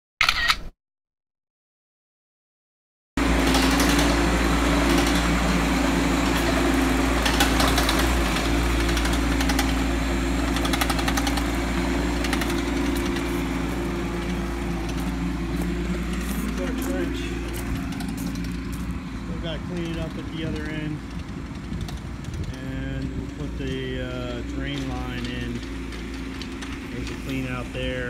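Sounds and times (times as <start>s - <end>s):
diesel engine running: 3.2s - 28.0s.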